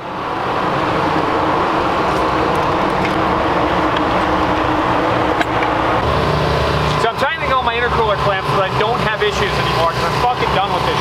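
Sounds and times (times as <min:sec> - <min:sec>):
engine-like running noise: 0:00.0 - 0:11.0.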